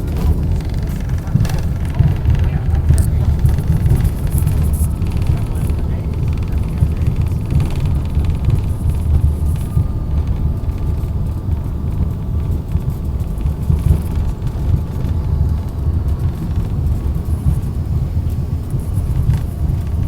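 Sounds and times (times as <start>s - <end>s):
airliner cabin rumble: 0.0s - 20.0s
faint steady tones: 0.0s - 20.0s.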